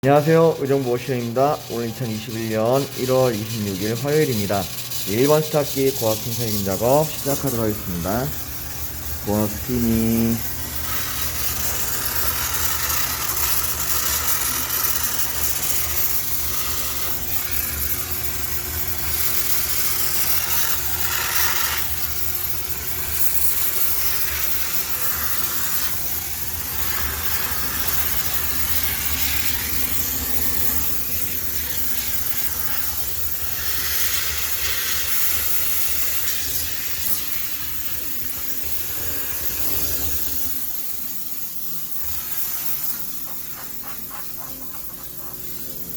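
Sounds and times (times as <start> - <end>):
steam cleaner hissing: 0.0 - 45.9.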